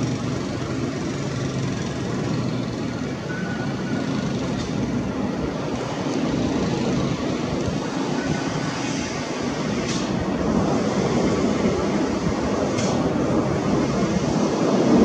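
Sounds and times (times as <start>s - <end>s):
jet engine roar overhead: 0.0s - 15.0s.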